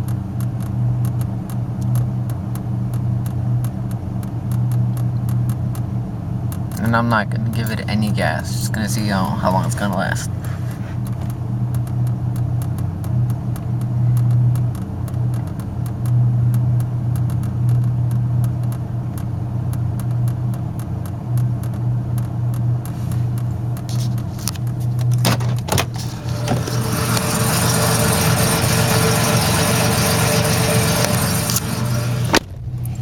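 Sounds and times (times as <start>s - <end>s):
engine knocks: 0.0s - 32.8s
car engine idling: 1.4s - 16.1s, 16.8s - 32.8s.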